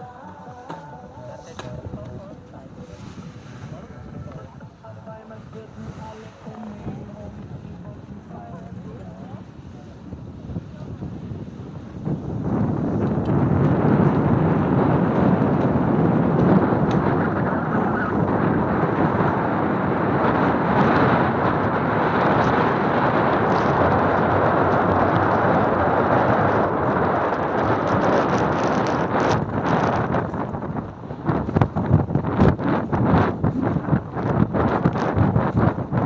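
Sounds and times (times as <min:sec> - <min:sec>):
strong wind buffeting microphone: 0:00.0 - 0:36.0.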